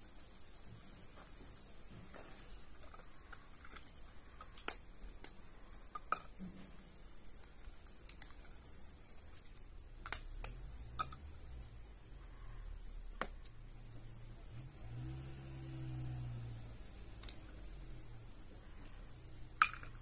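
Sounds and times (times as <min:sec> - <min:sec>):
faint high-pitched hiss: 0:00.0 - 0:20.0.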